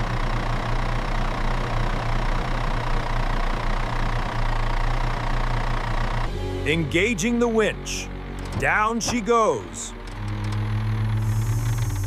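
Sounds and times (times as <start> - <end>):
engine idling: 0.0 - 6.4, 7.1 - 12.0.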